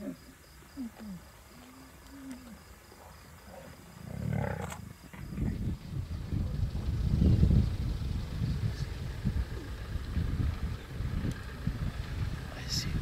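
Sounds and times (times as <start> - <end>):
lion cubs growling: 0.0 - 12.8.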